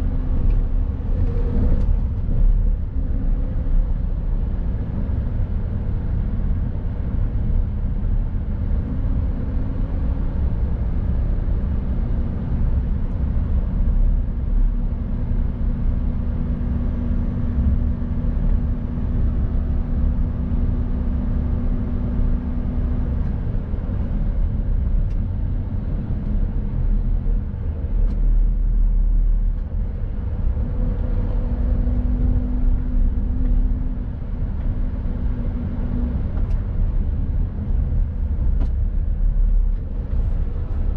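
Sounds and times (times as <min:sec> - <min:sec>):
engine hum rising: 0:00.0 - 0:40.9
truck driving: 0:00.0 - 0:40.9.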